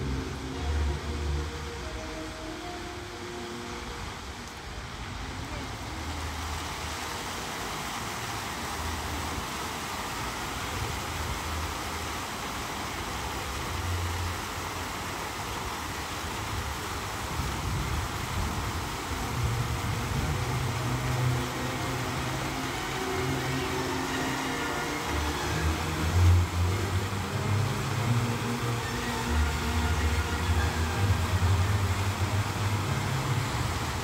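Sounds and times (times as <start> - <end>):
fountain water spraying and splashing: 0.0 - 34.0.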